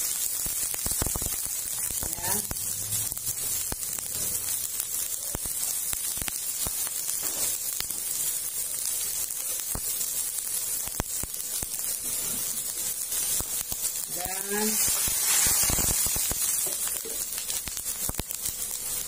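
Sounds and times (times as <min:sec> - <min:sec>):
sauce sizzling in a wok: 0:00.0 - 0:19.0.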